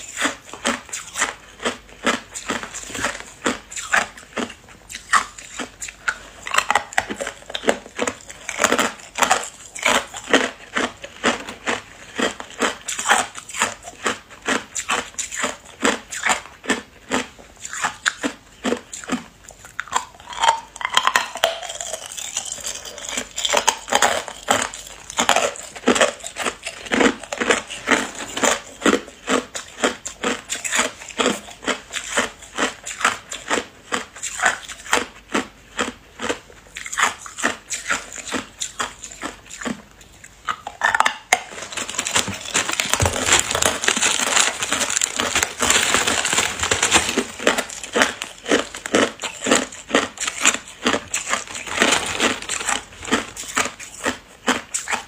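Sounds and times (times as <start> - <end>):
ice cubes crunched between teeth: 0.0 - 39.8, 40.4 - 55.0.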